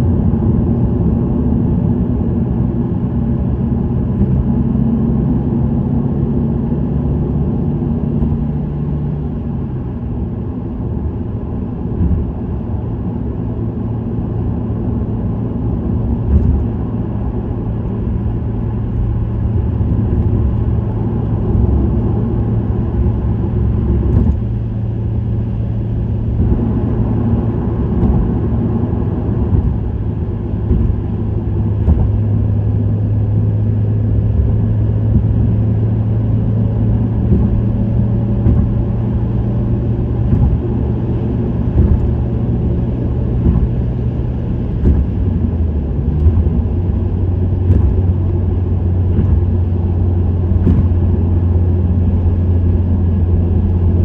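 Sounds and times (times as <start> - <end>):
car engine cruising: 0.0 - 54.0
low exhaust drone: 0.0 - 54.0.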